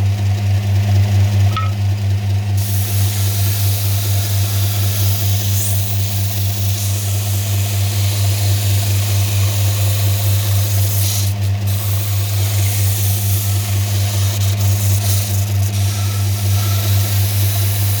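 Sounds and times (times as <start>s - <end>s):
grinding machine motor hum: 0.0s - 18.0s.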